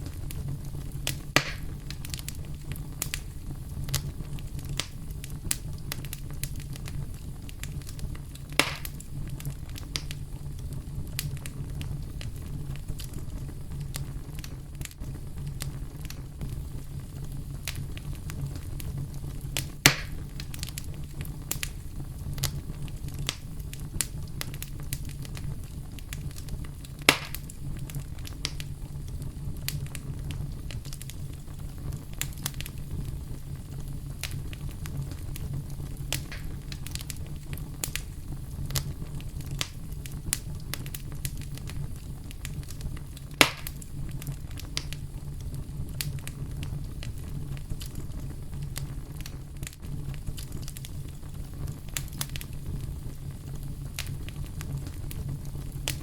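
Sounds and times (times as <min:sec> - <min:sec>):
campfire crackling: 0:00.0 - 0:56.0
fire pops: 0:00.0 - 0:56.0.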